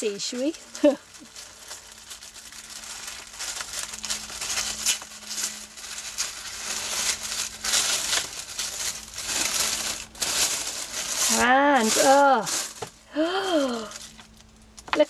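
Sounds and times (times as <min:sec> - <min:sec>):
tissue paper rustling: 0:00.0 - 0:14.4.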